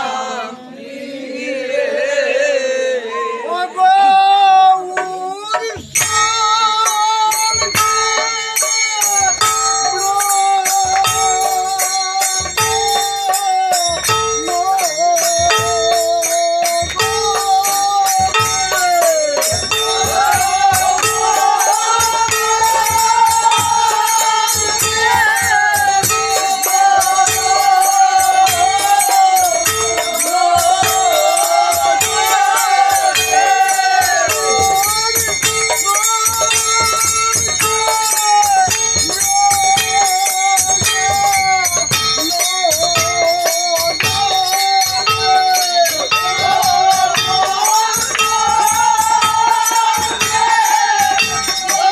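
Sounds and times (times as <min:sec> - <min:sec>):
men singing folk song: 0:00.0 - 0:51.9
metal percussion jingling: 0:04.8 - 0:51.9
barrel drum beating: 0:09.2 - 0:51.9.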